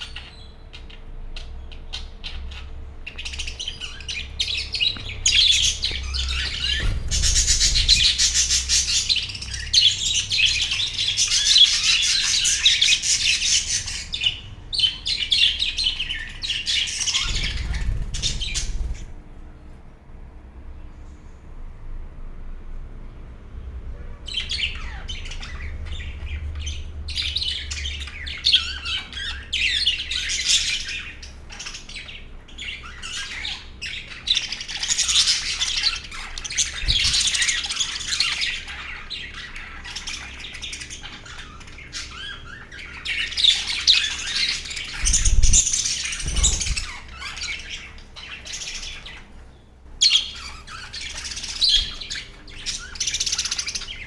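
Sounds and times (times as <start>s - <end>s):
budgerigars chattering and chirping: 0.0s - 19.2s, 24.1s - 54.0s.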